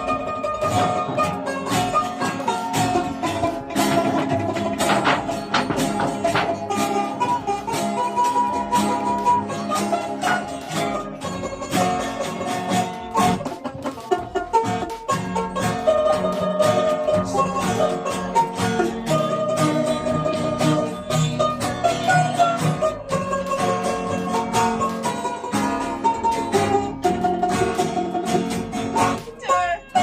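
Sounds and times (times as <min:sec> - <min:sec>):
quick plucked string music: 0:00.0 - 0:30.0.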